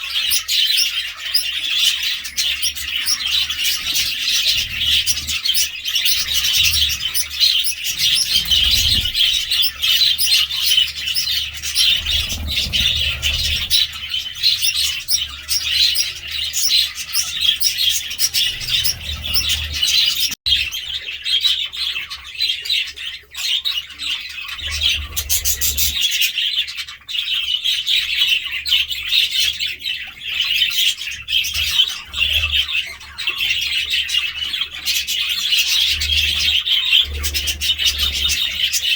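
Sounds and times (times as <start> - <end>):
budgerigars chattering: 0.0 - 20.9, 23.5 - 26.4, 30.7 - 38.9.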